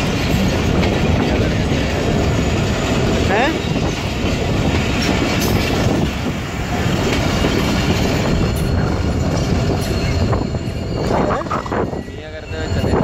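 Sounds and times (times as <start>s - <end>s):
wheels clacking over rail joints: 0.0s - 10.9s
train wheels rumbling on rails: 0.0s - 13.0s.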